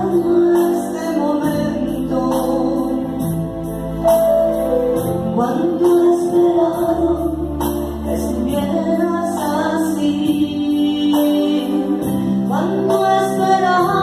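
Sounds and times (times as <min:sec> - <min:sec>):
woman singing slow song: 0:00.0 - 0:03.9, 0:05.0 - 0:14.0
electronic keyboard chords: 0:00.0 - 0:14.0.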